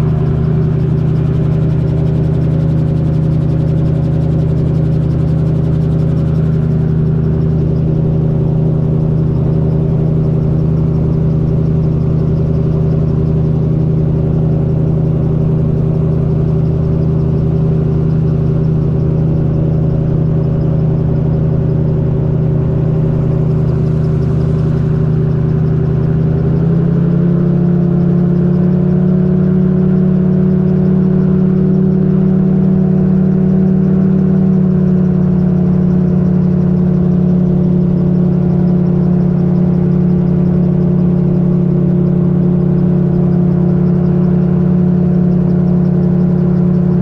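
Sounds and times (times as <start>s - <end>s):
gyrocopter engine and propeller droning: 0.0s - 47.0s.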